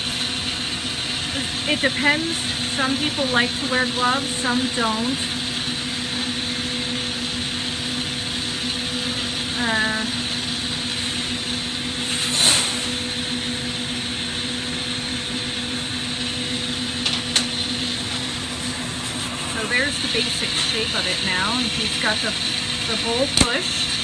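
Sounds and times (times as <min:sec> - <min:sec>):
low steady hum: 0:00.0 - 0:24.0
torch flame rushing: 0:00.0 - 0:24.0.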